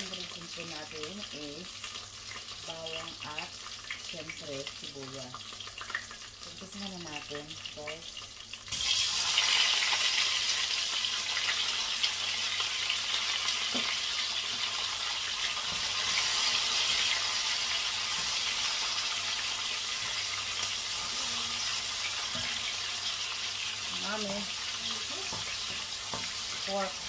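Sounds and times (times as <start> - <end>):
garlic and onion sizzling: 0.0 - 27.0.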